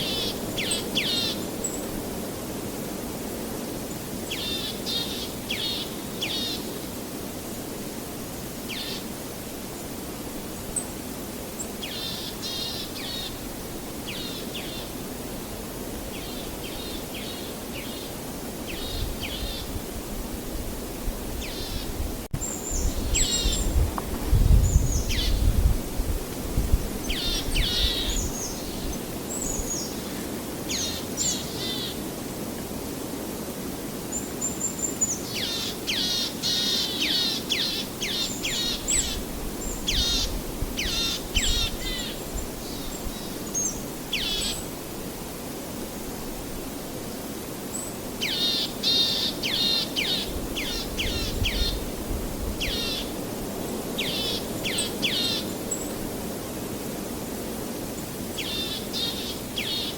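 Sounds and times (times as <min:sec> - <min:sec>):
small songbirds chirping: 0:00.0 - 0:02.1, 0:03.8 - 0:07.1, 0:08.6 - 0:20.0, 0:21.3 - 0:25.7, 0:26.6 - 0:32.0, 0:34.0 - 0:44.8, 0:47.2 - 0:56.2, 0:57.9 - 0:59.9.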